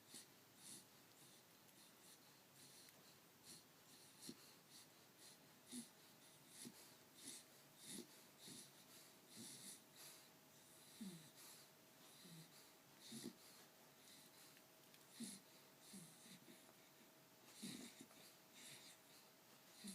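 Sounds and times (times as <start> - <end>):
wheezy squeaky breathing: 0.0 - 16.7, 17.5 - 19.9.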